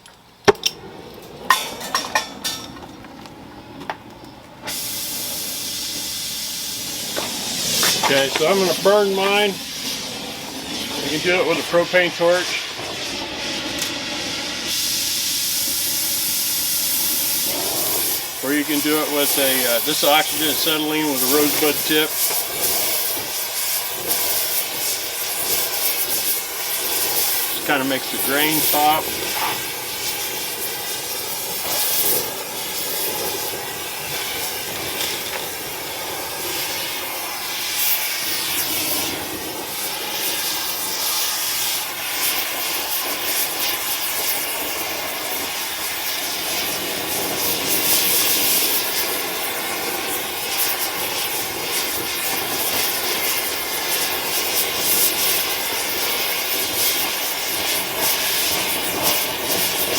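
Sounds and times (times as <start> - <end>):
torch flame hissing: 0.2 - 59.9.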